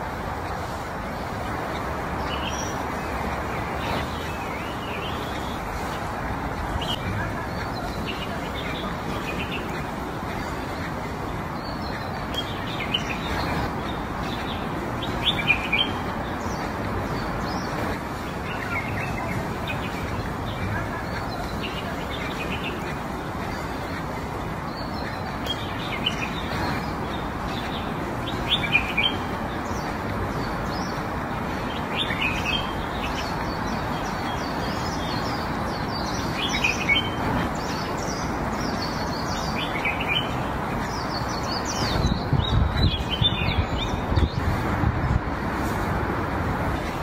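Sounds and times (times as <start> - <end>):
small birds chirping: 0.0 - 47.0
steady rushing noise: 0.0 - 47.0.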